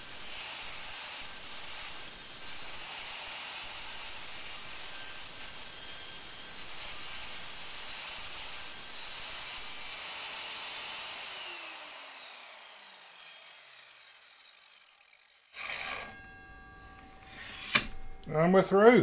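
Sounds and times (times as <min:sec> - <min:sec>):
saw blade spinning down: 0:00.0 - 0:18.5
mitre saw cutting steel: 0:00.0 - 0:18.8.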